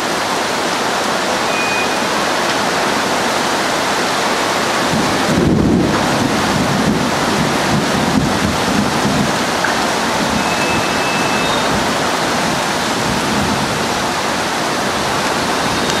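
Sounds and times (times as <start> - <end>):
heavy rain and hail: 0.0 - 16.0.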